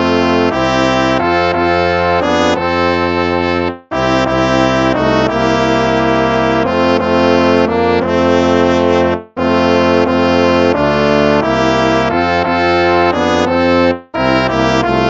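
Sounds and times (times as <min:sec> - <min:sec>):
brass hymn chords: 0:00.0 - 0:15.0.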